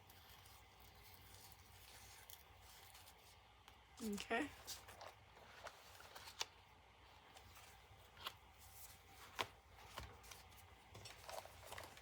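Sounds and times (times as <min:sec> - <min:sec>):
paper pages rustling: 0:00.0 - 0:03.4, 0:04.0 - 0:12.0.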